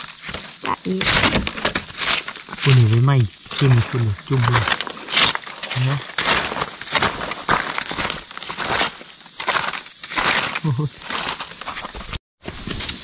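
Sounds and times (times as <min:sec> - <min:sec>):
dry leaves and soil rustling: 0:00.0 - 0:13.0
insects droning: 0:00.0 - 0:13.0.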